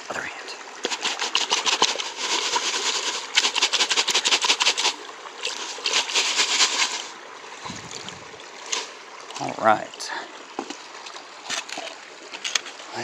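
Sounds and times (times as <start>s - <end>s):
gravel and water sloshing in screen: 0.2s - 13.0s.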